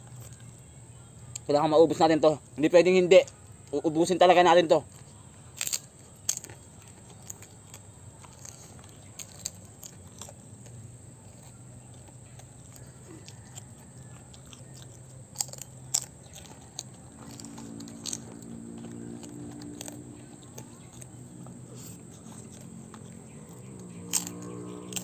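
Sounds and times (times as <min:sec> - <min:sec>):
person chewing crispy food: 0:04.9 - 0:25.0.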